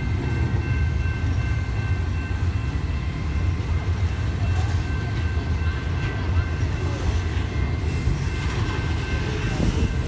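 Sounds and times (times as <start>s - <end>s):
steel wheels rumbling on rails: 0.0s - 10.0s.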